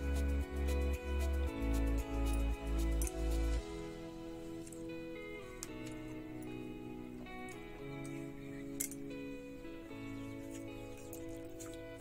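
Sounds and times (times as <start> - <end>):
soft sustained music notes: 0.0 - 12.0.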